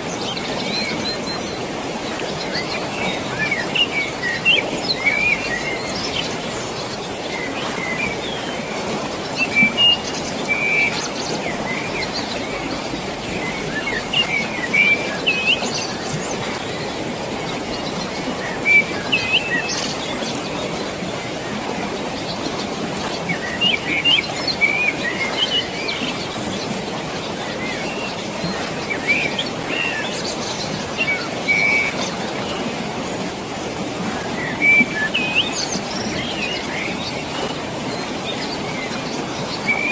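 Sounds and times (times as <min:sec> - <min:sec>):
birds chirping: 0:00.0 - 0:39.9
rushing water: 0:00.0 - 0:39.9.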